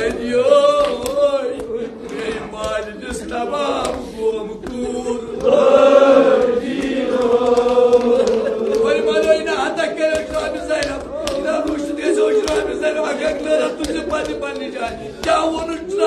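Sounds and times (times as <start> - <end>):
men chanting: 0.0 - 16.0.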